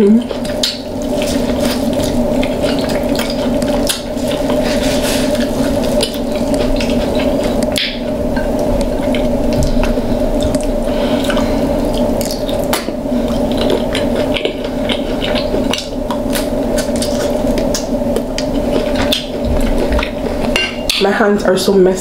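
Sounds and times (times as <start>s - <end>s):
wet eating sounds: 0.0s - 21.1s
steady low hum: 0.0s - 22.0s.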